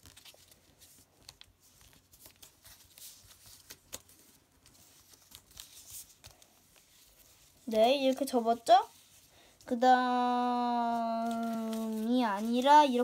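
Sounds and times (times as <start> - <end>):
paper rustling while folded: 0.0 - 13.0.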